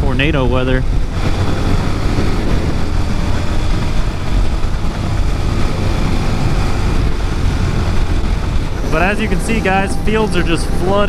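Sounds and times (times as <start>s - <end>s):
motorcycle engine running: 0.0s - 11.0s
wind buffeting the microphone: 0.0s - 11.0s.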